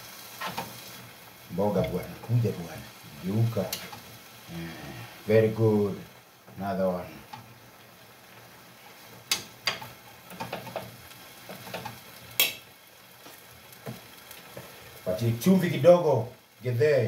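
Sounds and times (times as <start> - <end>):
greens frying in a pan: 0.0 - 17.0.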